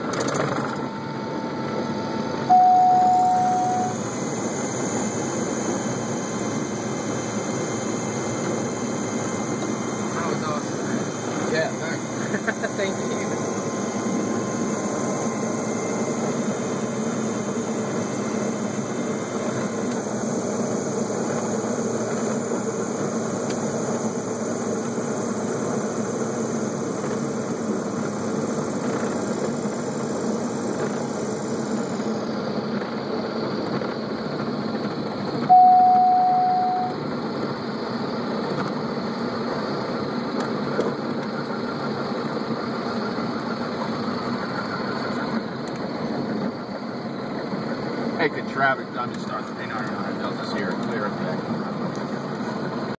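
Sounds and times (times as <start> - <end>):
airplane engine drone: 0.0 - 52.9
loud steady warning tone: 0.0 - 52.9.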